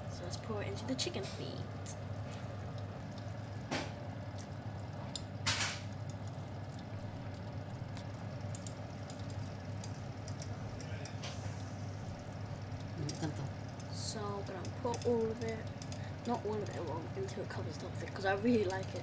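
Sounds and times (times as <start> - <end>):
drips and splats: 0.2 - 19.0.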